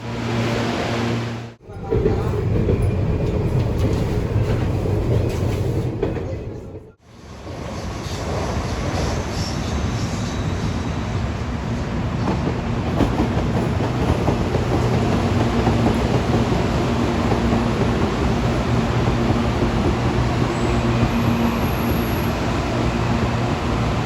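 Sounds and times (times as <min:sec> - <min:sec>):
train wheels on rails: 0:00.1 - 0:24.0.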